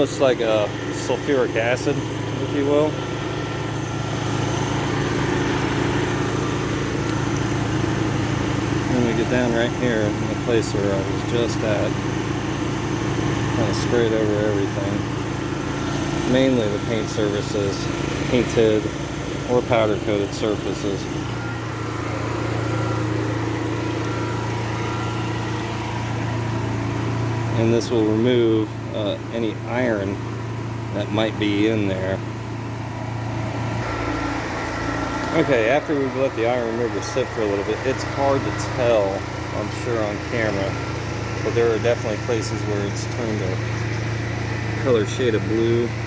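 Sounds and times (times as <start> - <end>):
small engine idling: 0.0 - 46.0.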